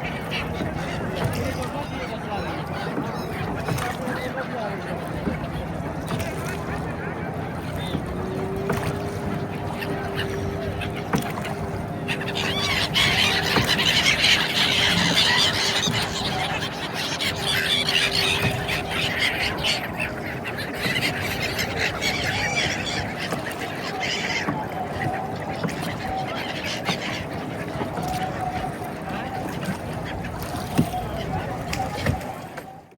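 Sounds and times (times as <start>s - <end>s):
flock of birds calling: 0.0s - 32.4s.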